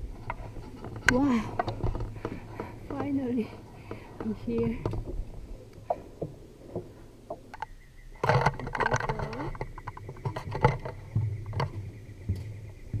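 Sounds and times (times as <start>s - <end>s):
footsteps on metal walkway: 0.0s - 7.6s, 8.3s - 13.0s.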